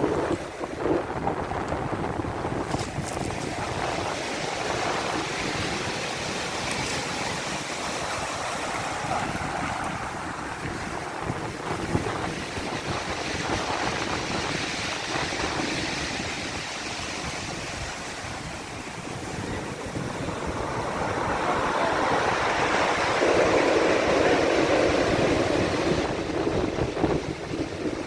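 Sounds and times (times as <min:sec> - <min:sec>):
sea waves washing in: 0:00.0 - 0:28.0
wind on microphone: 0:00.0 - 0:28.0.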